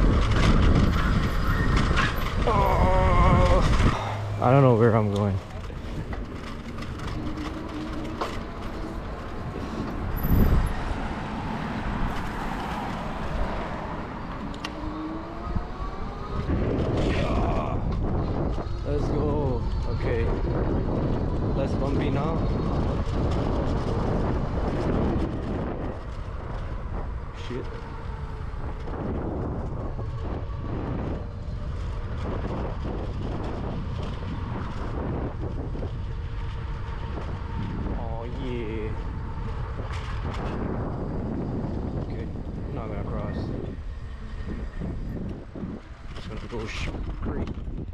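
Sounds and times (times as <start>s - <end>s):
bike tyres rumbling on bumpy path: 0.0s - 47.9s
wind buffeting microphone: 0.0s - 47.9s.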